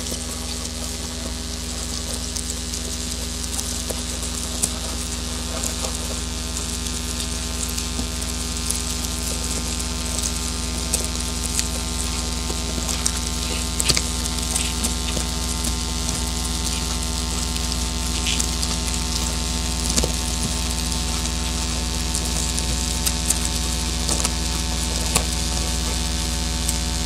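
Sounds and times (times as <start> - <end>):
crackles and clicks: 0.0 - 27.0
modular synthesizer drone: 0.0 - 27.0.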